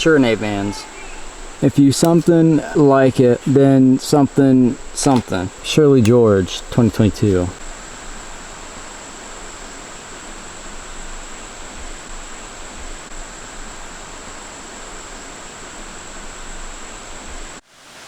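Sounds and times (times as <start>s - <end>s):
thin steady high tone: 0.0s - 17.6s
flowing water rushing: 0.0s - 18.0s.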